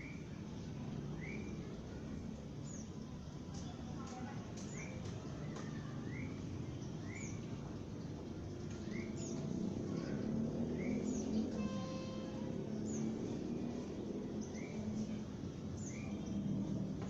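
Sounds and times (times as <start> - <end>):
sparrows chirping: 0.0 - 17.0.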